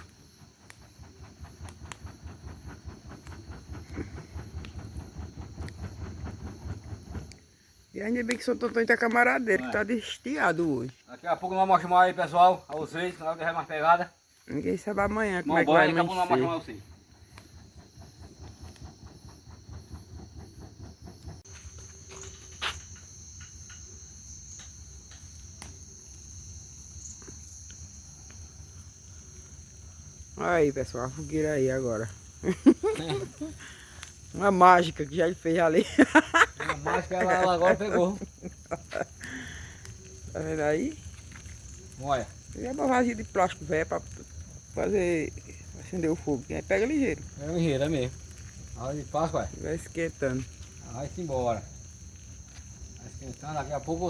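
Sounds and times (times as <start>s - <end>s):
bonfire crackling and popping: 0.0s - 54.0s
insects chirping: 0.0s - 54.0s.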